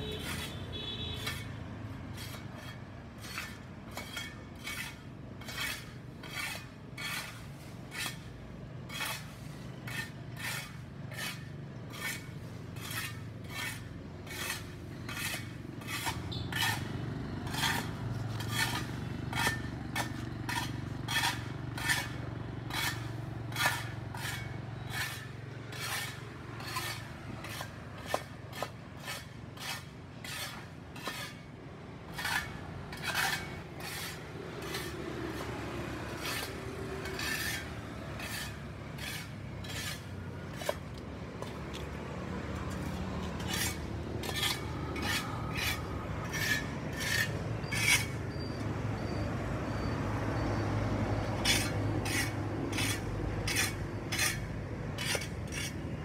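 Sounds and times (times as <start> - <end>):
tool scraping sidewalk: 0.0 - 56.0.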